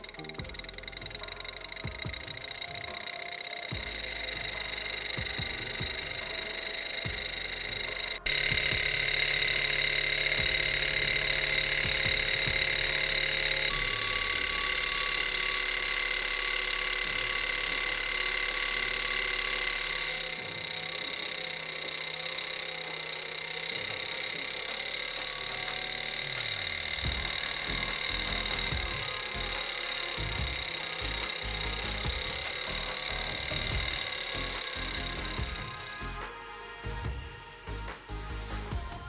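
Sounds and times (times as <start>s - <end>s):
model engine whirring: 0.0s - 36.4s.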